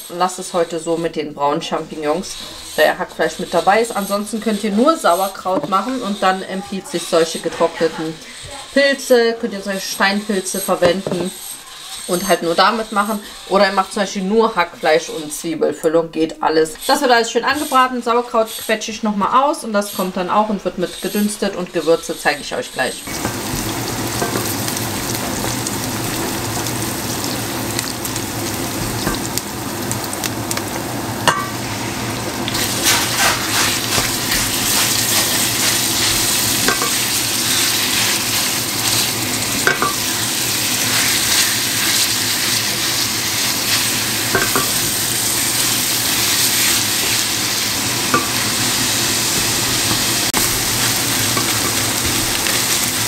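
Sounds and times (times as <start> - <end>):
onions and meat sizzling: 0.0 - 15.7, 19.7 - 53.0.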